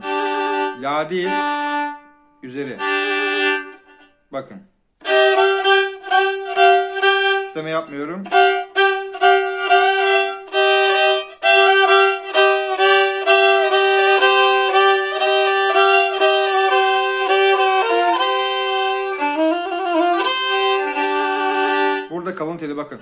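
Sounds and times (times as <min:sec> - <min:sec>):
bowed fiddle melody over drone: 0:00.0 - 0:04.1, 0:05.0 - 0:22.4.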